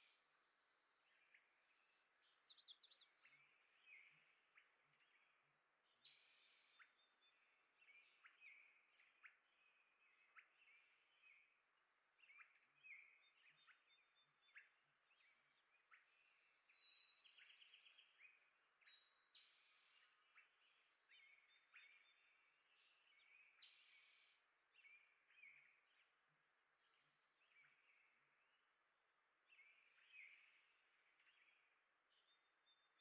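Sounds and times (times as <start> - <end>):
small songbirds chirping: 0.0 - 33.0.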